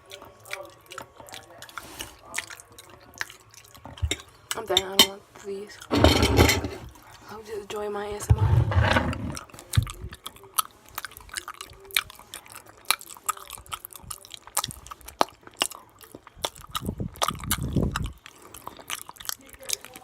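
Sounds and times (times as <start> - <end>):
wet chewing and lip-smacking: 0.0 - 5.9, 9.4 - 20.0.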